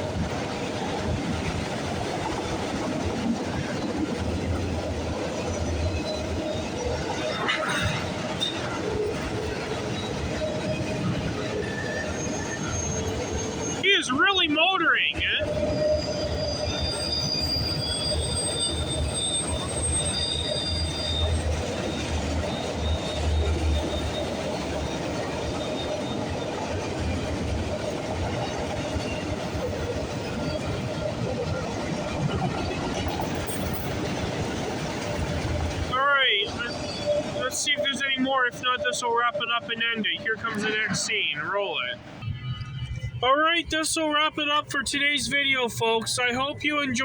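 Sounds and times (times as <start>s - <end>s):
freight train rolling past: 0.0s - 47.0s
high wheel squeals: 5.2s - 43.2s.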